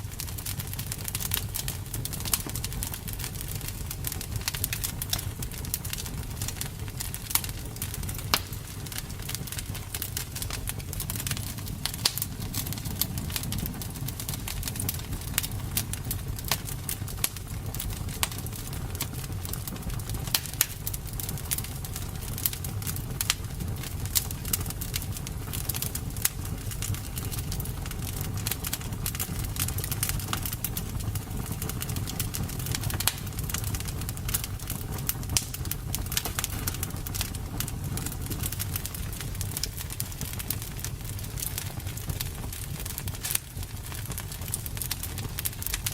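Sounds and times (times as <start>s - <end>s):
campfire crackling and popping: 0.0s - 45.9s
low rumble of burning flames: 0.0s - 45.9s.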